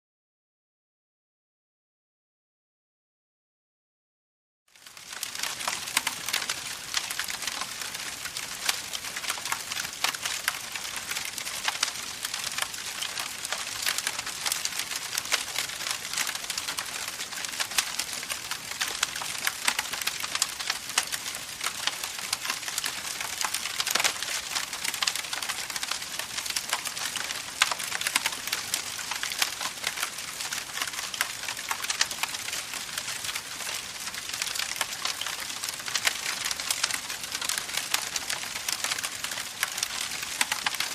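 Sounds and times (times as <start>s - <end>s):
campfire crackling: 4.8s - 40.9s.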